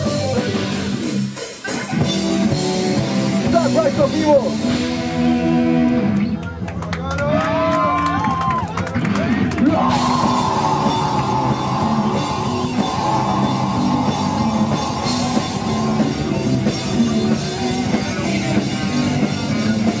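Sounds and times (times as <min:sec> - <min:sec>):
death metal band playing: 0:00.0 - 0:06.2, 0:09.5 - 0:20.0.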